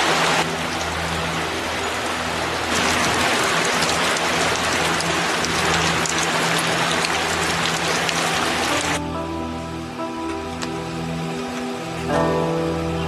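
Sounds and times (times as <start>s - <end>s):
soft background music: 0.0s - 13.0s
steady rain falling: 0.0s - 13.0s.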